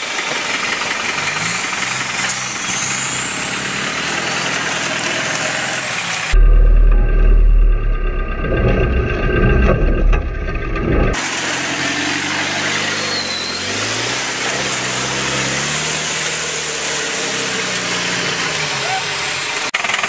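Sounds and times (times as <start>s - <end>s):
truck engine revving: 0.3s - 20.0s.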